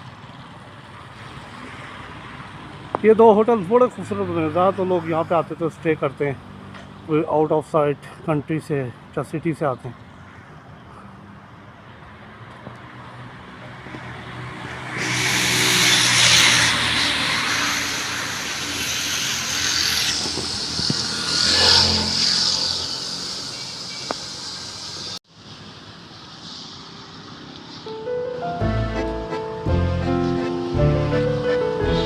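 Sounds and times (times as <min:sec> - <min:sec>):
vehicles passing close by: 0:00.0 - 0:32.0.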